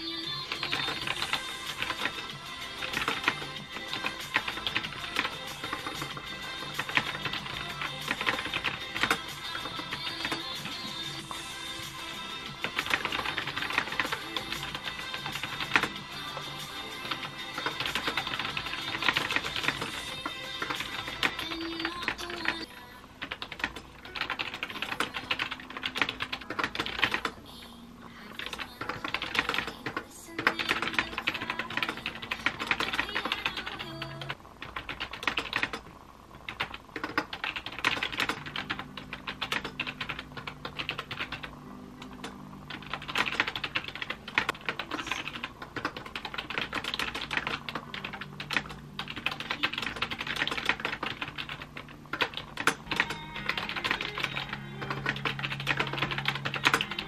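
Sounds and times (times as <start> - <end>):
fast typing on laptop keyboard: 0.0 - 27.4, 28.2 - 57.0.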